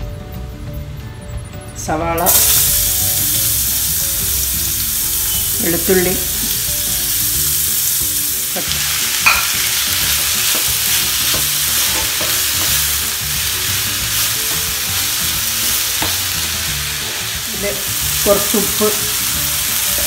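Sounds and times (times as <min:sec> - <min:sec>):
vegetables sizzling in hot oil: 0:02.3 - 0:20.0.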